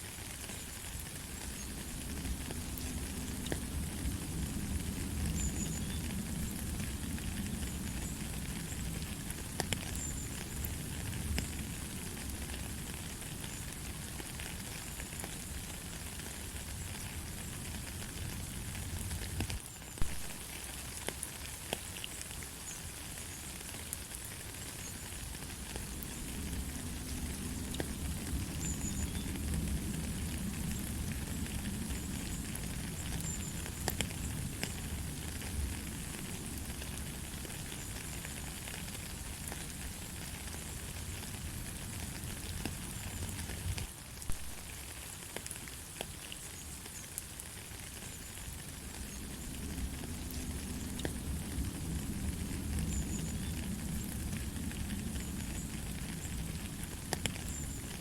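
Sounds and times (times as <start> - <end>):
light rain falling: 0.0 - 58.0
rain drops ticking: 0.0 - 58.0.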